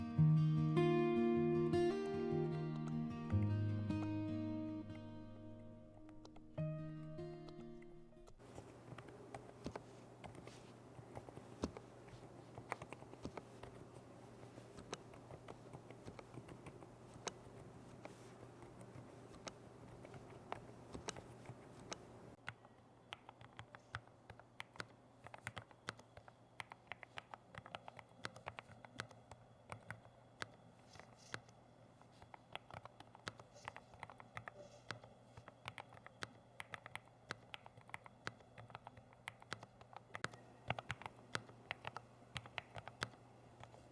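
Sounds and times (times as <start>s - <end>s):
faint steady hum: 0.0s - 43.9s
soft keyboard keystroke clicks: 6.0s - 6.6s, 8.3s - 43.9s.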